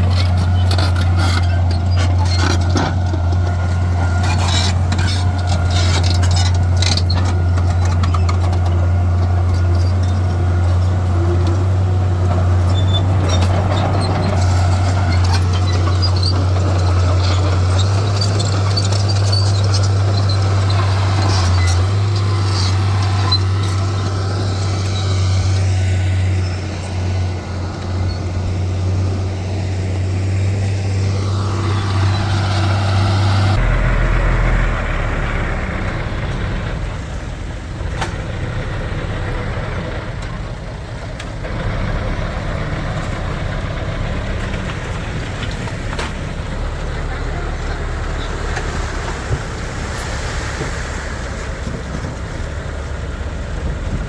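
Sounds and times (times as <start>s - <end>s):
heavy machinery diesel engines droning: 0.0s - 54.0s.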